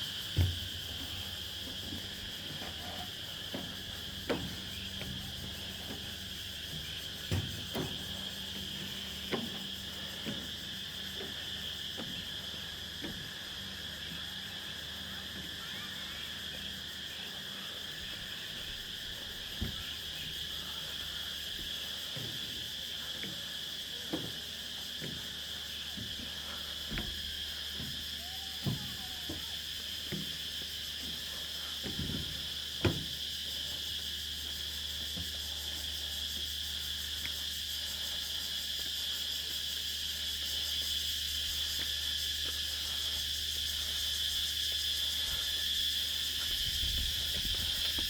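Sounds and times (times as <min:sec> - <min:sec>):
insects calling in a shrill drone: 0:00.0 - 0:48.0.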